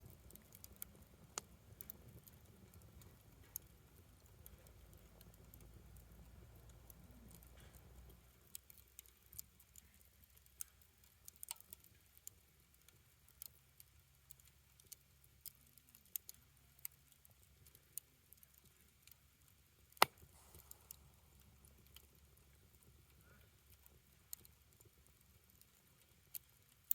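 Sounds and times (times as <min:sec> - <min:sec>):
fire crackling and popping: 0:00.0 - 0:26.9.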